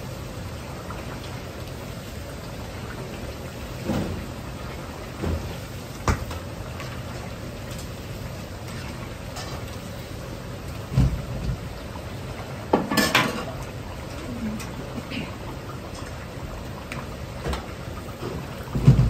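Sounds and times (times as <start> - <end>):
oil sizzling and bubbling: 0.0 - 19.0.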